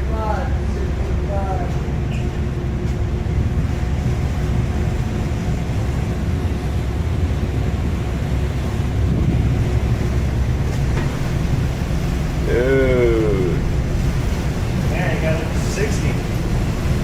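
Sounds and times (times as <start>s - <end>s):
sea noise: 0.0s - 17.0s
ship engines rumbling: 0.0s - 17.0s
storm wind: 0.0s - 17.0s.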